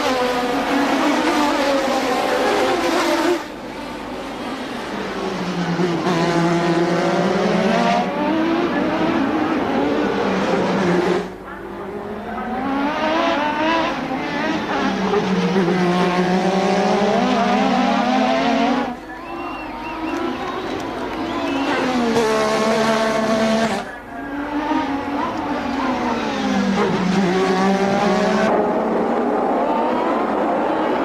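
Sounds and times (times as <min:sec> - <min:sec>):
racing car engine revving: 0:00.0 - 0:31.0.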